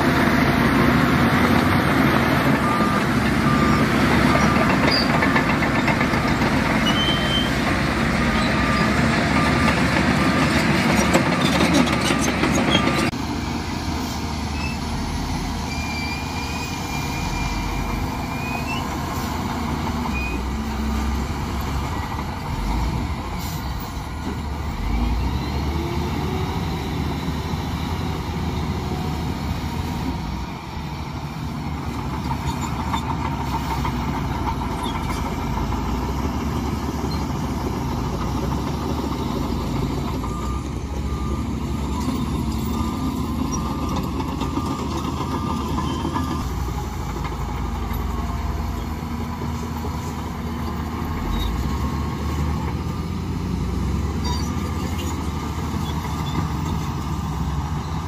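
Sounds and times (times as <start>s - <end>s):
wheel loader diesel engine running: 0.0s - 58.0s.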